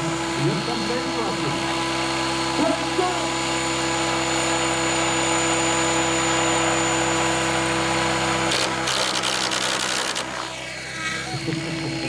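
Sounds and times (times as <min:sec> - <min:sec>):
electric helicopter rotor whine: 0:00.0 - 0:12.0.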